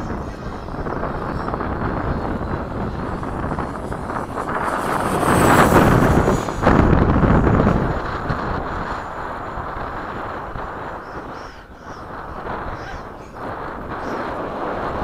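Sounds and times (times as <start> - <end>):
electric ducted-fan jet passing: 0.0 - 15.0
wind buffeting microphone: 0.0 - 15.0.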